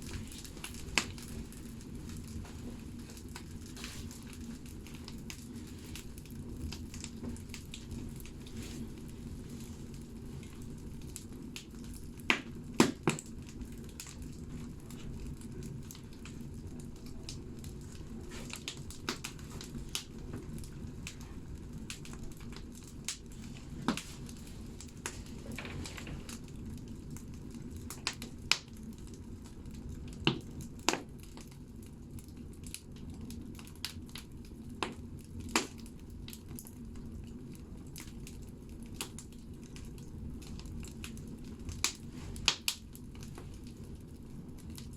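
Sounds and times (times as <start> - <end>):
crackles and pops of logs: 0.0 - 44.9
fire rumbling in wood stove: 0.0 - 44.9.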